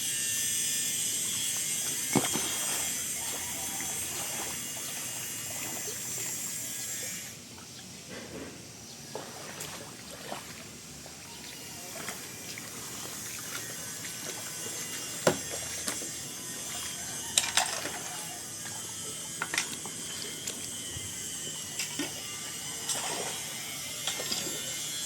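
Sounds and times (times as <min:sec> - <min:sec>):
creek water trickling: 0:01.1 - 0:08.0, 0:08.9 - 0:25.0.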